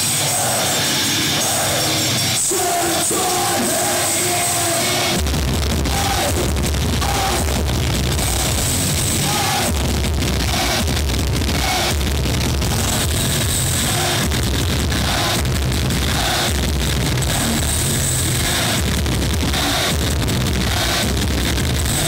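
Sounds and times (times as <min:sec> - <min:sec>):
bass and drums: 0:00.0 - 0:22.0
heavy metal band playing live: 0:00.0 - 0:22.0.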